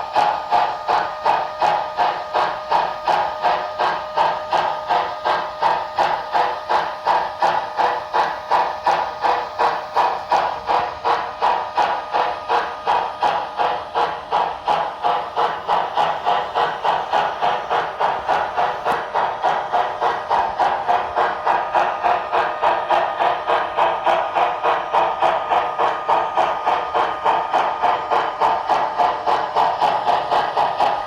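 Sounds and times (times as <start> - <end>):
model steam locomotive chuffs: 0.0 - 31.0.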